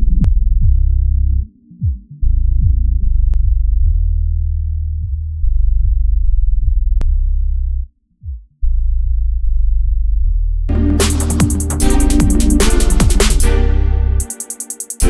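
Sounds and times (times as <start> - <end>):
deep bass and kick drum: 0.0 - 13.5.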